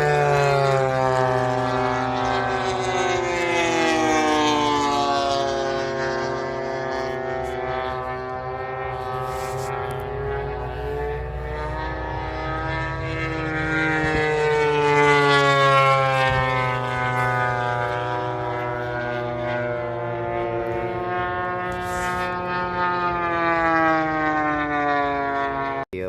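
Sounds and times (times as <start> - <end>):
low engine drone: 0.0 - 26.0
model airplane engine whine: 0.0 - 26.0.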